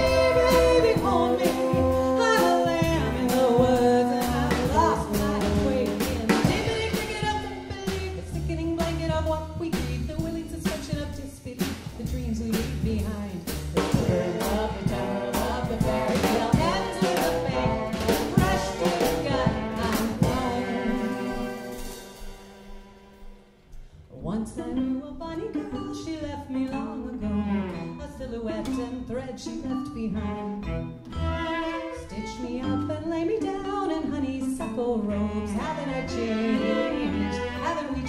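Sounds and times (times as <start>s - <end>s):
live band playing: 0.0s - 23.8s, 30.4s - 33.8s, 34.4s - 38.0s.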